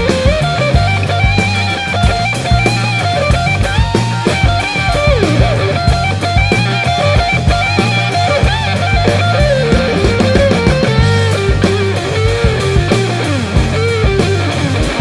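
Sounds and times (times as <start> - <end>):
bass: 0.0 - 15.0
drum kit beat: 0.0 - 15.0
electric guitar: 0.0 - 15.0.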